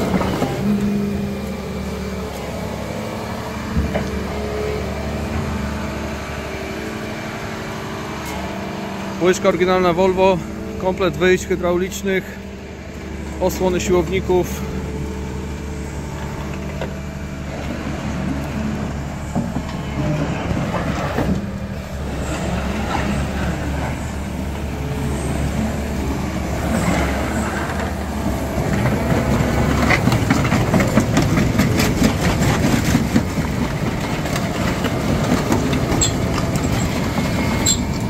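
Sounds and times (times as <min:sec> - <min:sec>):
excavator diesel engine idling: 0:00.0 - 0:38.0.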